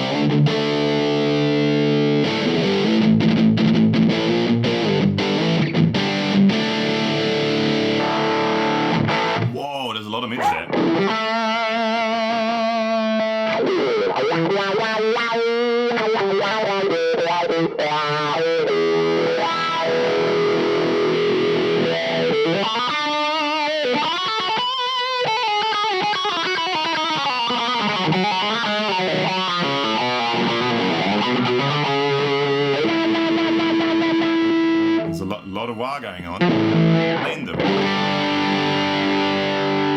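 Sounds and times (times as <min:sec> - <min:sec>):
overdriven electric guitar: 0:00.0 - 0:09.5, 0:10.6 - 0:35.1, 0:36.4 - 0:39.9.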